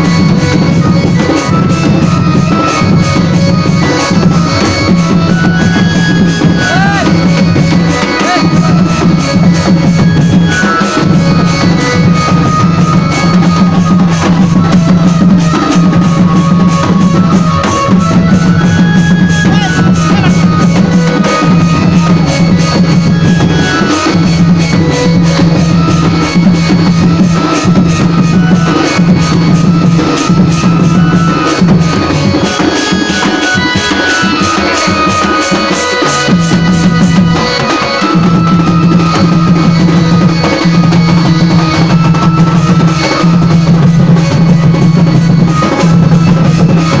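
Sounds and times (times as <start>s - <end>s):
dance music with fast drum beat: 0.0s - 47.0s.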